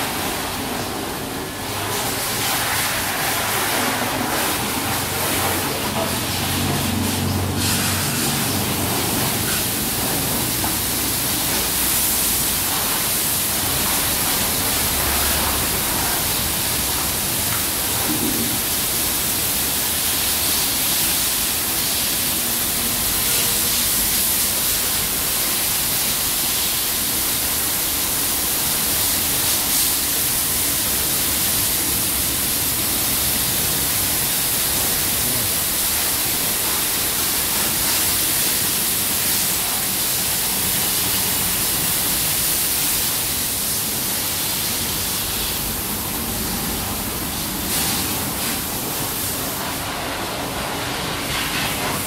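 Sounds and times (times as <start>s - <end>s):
water jets spraying: 0.0s - 52.0s.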